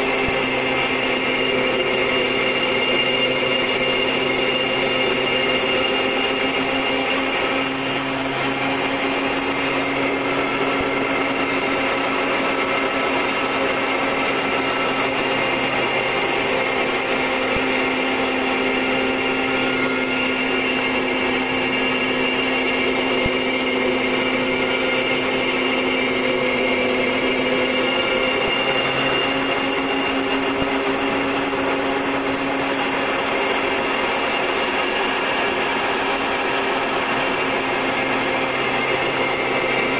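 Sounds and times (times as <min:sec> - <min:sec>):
turboprop engine hum and whine: 0:00.0 - 0:39.9.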